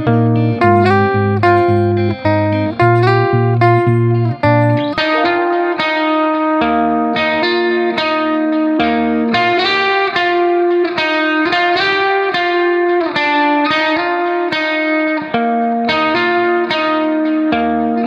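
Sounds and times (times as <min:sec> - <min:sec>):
plucked guitar melody: 0:00.0 - 0:18.0.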